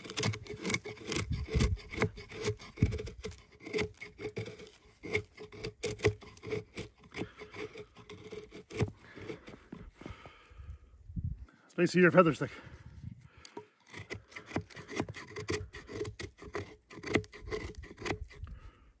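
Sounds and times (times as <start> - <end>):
knife scraping wood: 0.0 - 10.0, 13.4 - 18.8.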